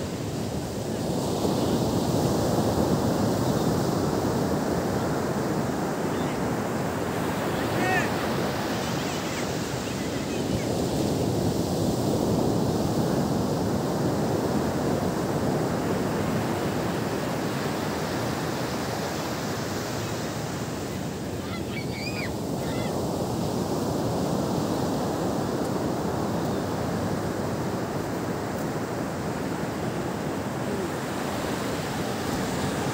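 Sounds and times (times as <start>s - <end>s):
ocean waves breaking on beach: 0.0s - 32.9s.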